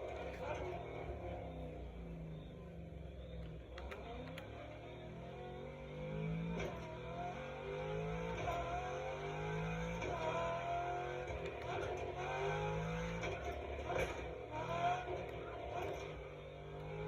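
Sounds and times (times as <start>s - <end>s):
car engine rising in pitch: 0.0s - 17.0s.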